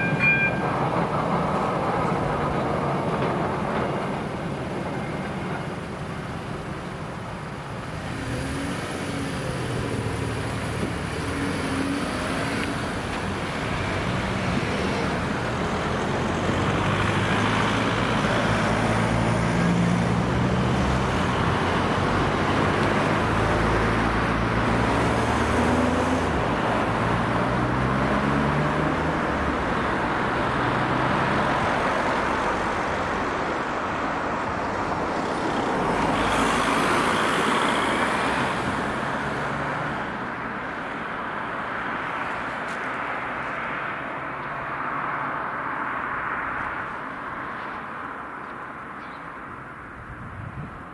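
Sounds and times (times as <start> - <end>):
cars driving past: 0.0 - 6.8, 7.4 - 50.6.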